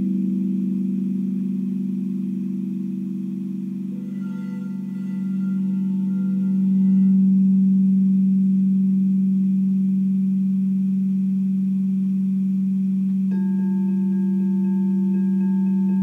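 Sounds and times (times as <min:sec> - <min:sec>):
singing bowl humming: 0:00.0 - 0:16.0.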